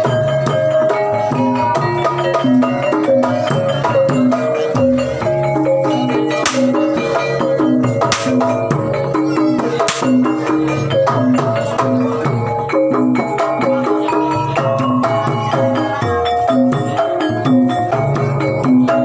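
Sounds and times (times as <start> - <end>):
metallophone melody: 0.0 - 19.0.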